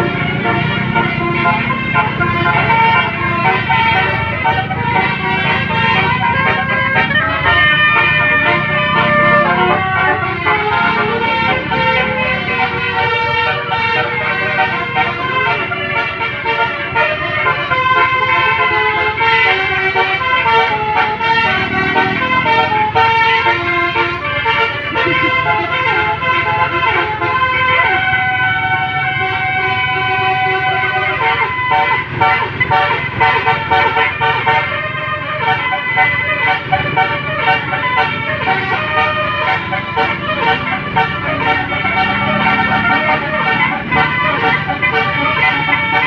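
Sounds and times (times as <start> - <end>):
low engine rumble: 0.0 - 46.0
multi-tone air horn playing a tune: 0.0 - 46.0.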